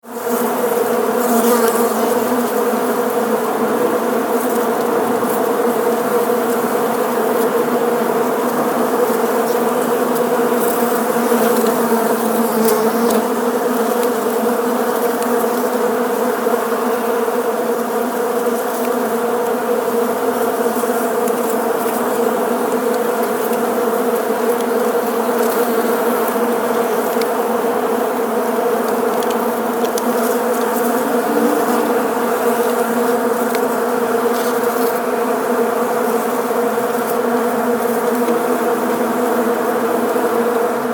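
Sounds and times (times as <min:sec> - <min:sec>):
bees buzzing: 0:00.5 - 0:40.9.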